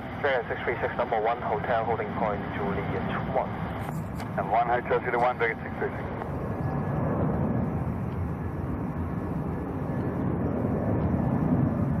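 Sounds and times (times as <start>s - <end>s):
distant jet engine rumble: 0.0s - 12.0s.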